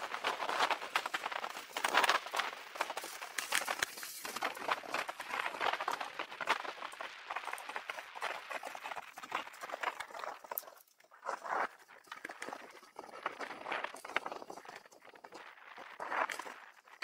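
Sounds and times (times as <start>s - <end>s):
bicycle rattling and clicking: 0.0s - 17.0s.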